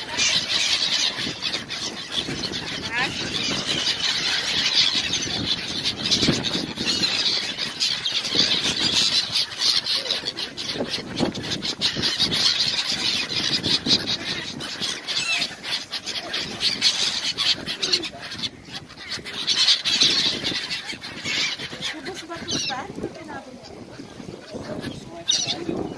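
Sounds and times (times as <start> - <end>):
gulls calling: 0.0 - 25.9.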